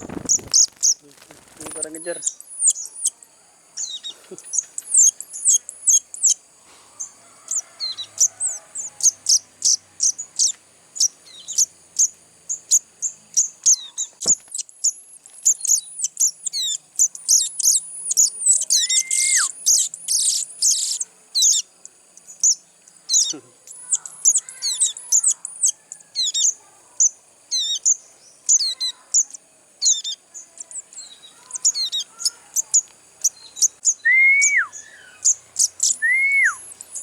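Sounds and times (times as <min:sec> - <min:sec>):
young birds begging chirps: 0:00.0 - 0:37.0.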